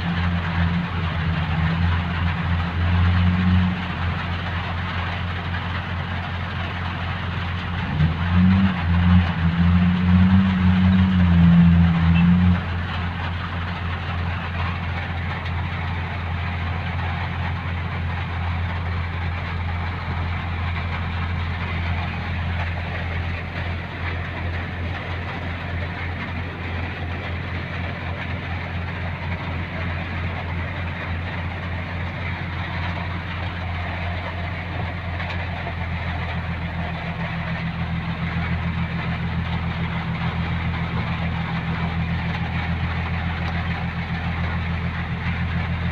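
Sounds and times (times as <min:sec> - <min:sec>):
rain hissing: 0:00.0 - 0:45.9
vehicle engine idling: 0:00.0 - 0:45.9.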